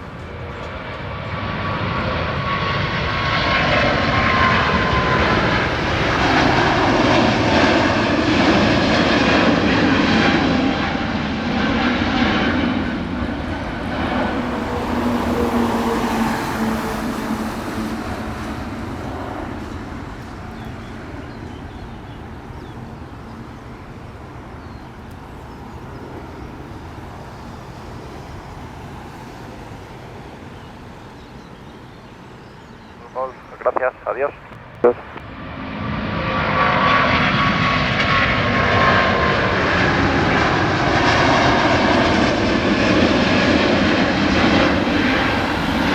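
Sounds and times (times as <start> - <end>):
jet airliner engines: 0.0 - 45.9.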